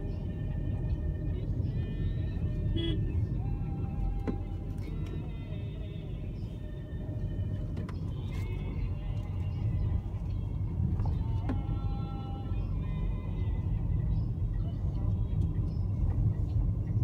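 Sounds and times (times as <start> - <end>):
car driving engine and tyres: 0.0 - 17.0
faint music: 0.0 - 17.0.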